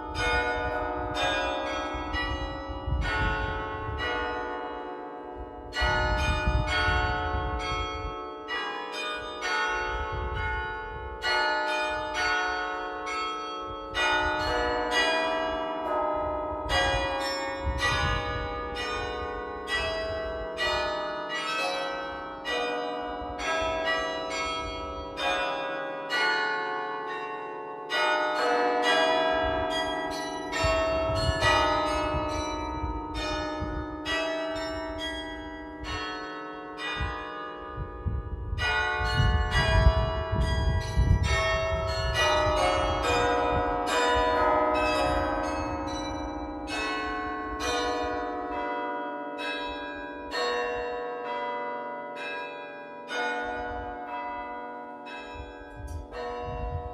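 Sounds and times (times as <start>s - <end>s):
carillon bells ringing: 0.0s - 56.9s.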